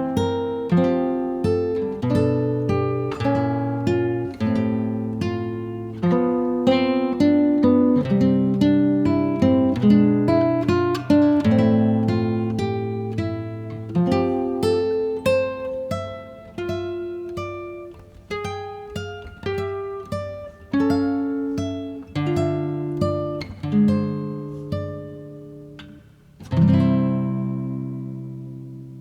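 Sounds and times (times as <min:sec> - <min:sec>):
acoustic guitar plucking melody: 0:00.0 - 0:29.0.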